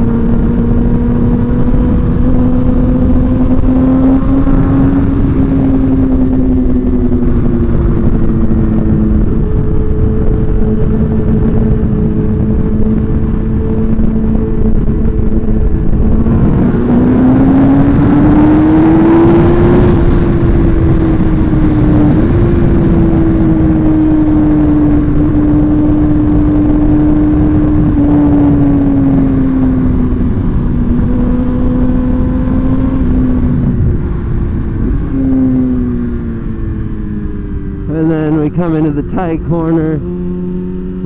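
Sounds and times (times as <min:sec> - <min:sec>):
motorcycle engine running hard: 0:00.0 - 0:41.0
wind rush on microphone: 0:00.0 - 0:41.0.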